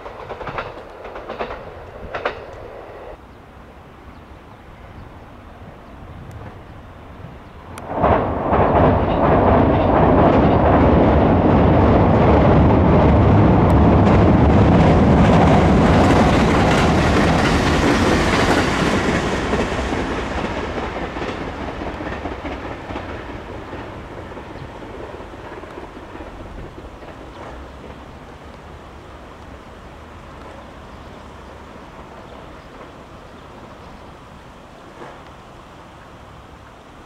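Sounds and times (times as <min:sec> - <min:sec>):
train wheels clattering on rails: 0:00.0 - 0:02.8, 0:07.7 - 0:34.0, 0:34.8 - 0:35.5.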